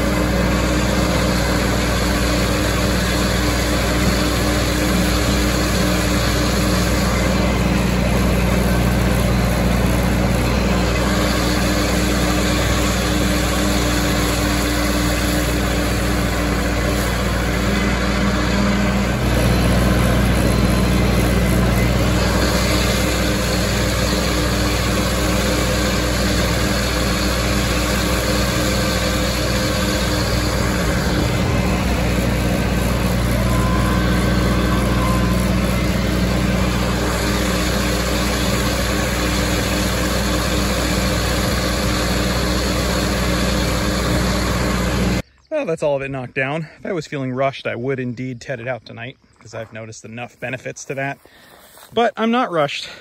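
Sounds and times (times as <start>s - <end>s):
tractor engine running: 0.0s - 45.4s.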